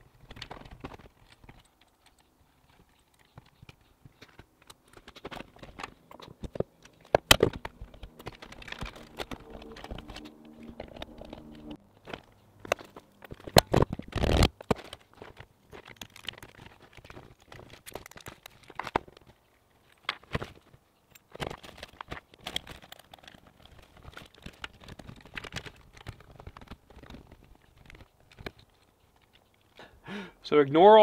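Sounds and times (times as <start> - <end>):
plastic conduit rustling and crinkling: 0.0 - 29.9.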